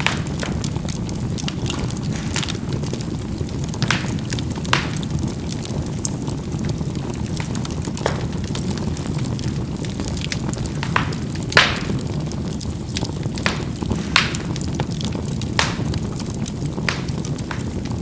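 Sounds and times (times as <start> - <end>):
embers popping: 0.0 - 18.0
fire rumbling: 0.0 - 18.0.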